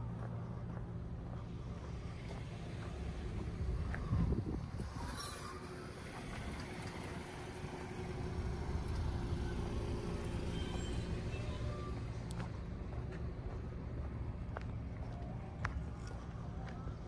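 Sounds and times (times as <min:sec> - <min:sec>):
distant engine rumble: 0:00.0 - 0:17.0.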